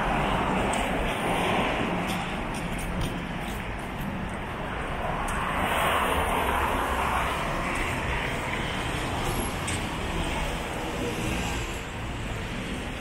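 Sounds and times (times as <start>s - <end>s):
vehicles passing on wet road: 0.0s - 13.0s.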